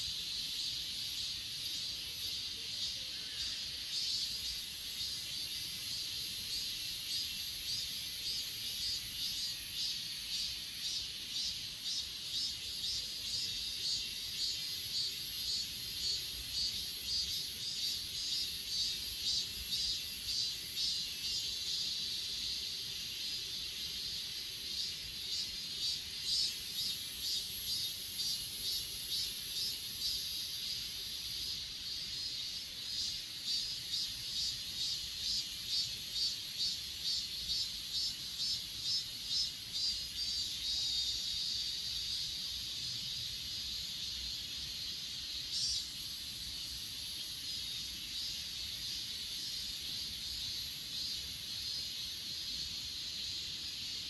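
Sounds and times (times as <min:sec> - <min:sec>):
crickets trilling: 0:00.0 - 0:54.0
insect pulsed chirps: 0:00.0 - 0:54.0.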